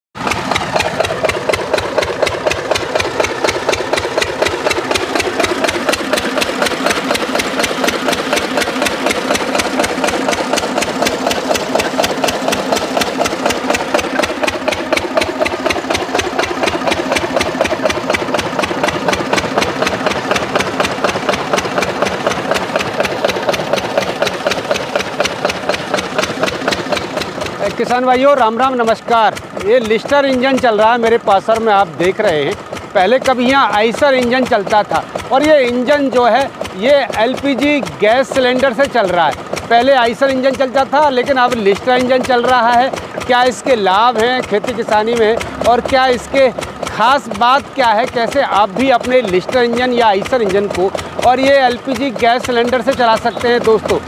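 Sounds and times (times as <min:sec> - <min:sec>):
stationary diesel engine running: 0:00.2 - 0:54.0.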